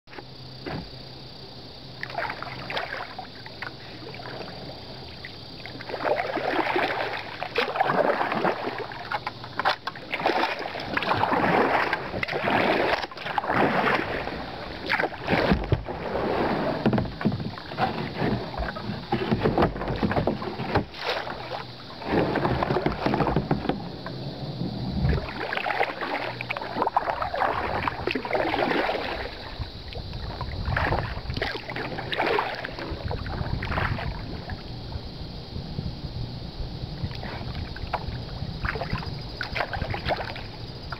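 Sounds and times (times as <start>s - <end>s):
paddle strokes splashing in water: 2.0s - 35.2s, 36.9s - 40.9s.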